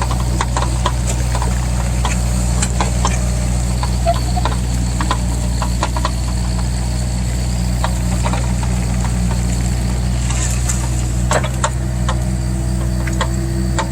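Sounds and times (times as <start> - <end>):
sharp clicks and knocks: 0.0 - 7.0, 7.7 - 13.9
excavator diesel engine running: 0.0 - 13.9.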